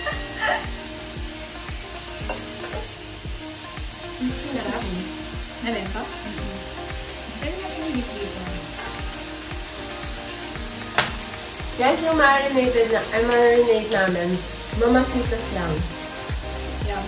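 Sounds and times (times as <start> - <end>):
meat sizzling on a grill plate: 0.0 - 17.0.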